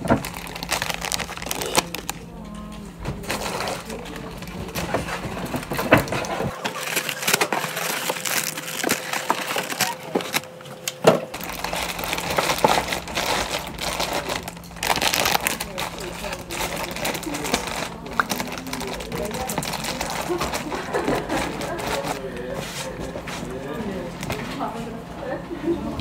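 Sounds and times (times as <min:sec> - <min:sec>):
paper bag rustling: 0:00.0 - 0:24.7
plastic wrappers crinkling: 0:00.0 - 0:24.7.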